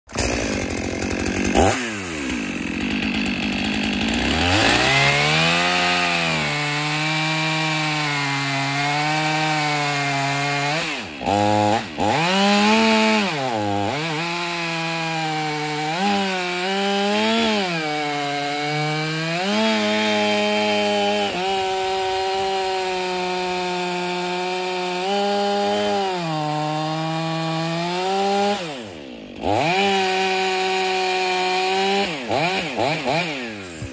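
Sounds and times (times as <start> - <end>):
chainsaw cutting logs: 0.1 - 33.9.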